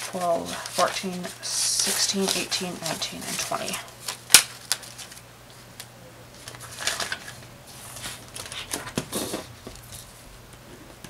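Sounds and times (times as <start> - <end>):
banknotes rustling: 0.0 - 5.7, 6.4 - 10.3.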